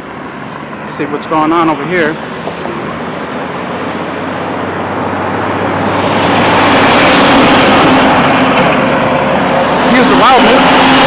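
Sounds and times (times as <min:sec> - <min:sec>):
truck passing close by: 0:00.0 - 0:11.0.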